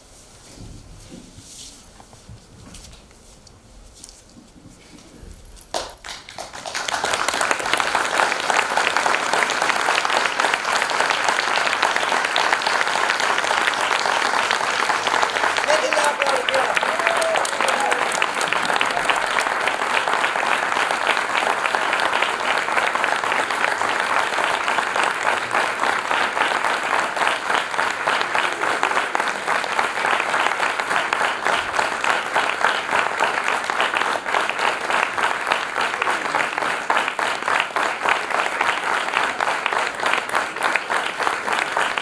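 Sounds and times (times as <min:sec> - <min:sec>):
audience applauding: 0:05.7 - 0:42.0.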